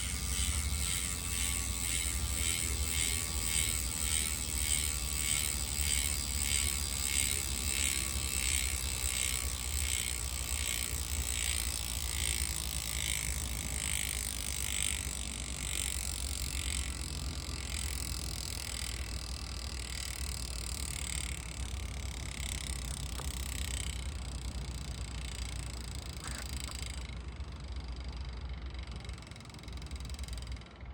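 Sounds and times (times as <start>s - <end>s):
bicycle hub ratchet buzzing: 0.0s - 30.9s.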